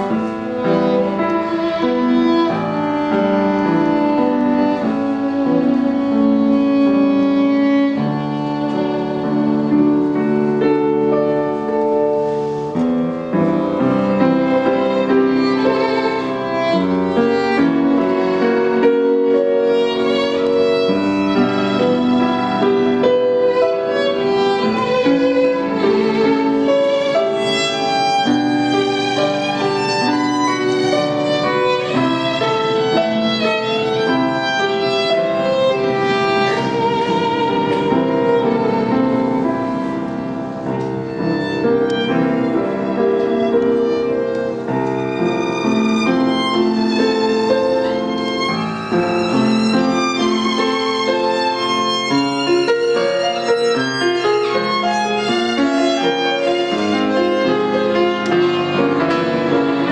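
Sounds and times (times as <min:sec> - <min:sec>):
piano accompaniment: 0:00.0 - 0:59.9
violin playing with vibrato: 0:00.0 - 0:59.9.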